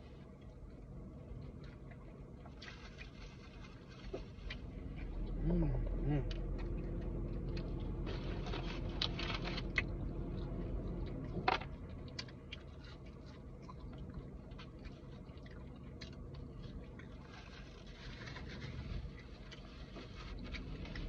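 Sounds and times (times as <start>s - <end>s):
chewing and crunching food: 0.0s - 21.0s
steady low hum: 0.0s - 21.0s.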